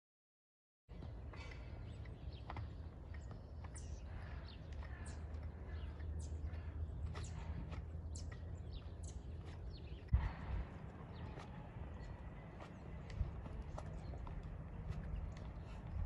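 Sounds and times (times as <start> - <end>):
small birds chirping: 0.9 - 16.0
steady low rumble: 2.8 - 16.0.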